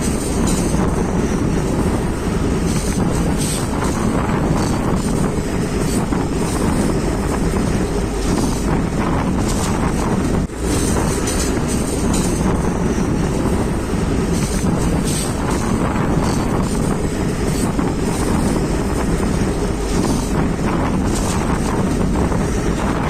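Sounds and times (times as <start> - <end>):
diesel train rumbling: 0.0 - 23.0
wind noise on microphone: 0.0 - 23.0.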